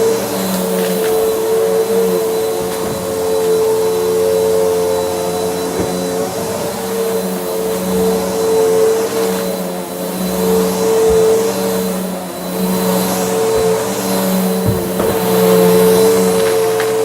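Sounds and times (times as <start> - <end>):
vacuum cleaner motor humming: 0.0 - 17.0.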